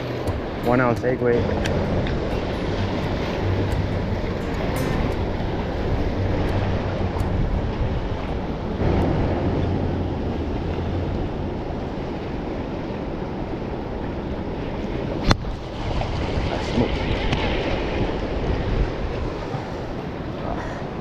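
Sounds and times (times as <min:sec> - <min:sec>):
surf washing against rocks: 0:00.0 - 0:21.0
wind rumbling on microphone: 0:00.0 - 0:21.0.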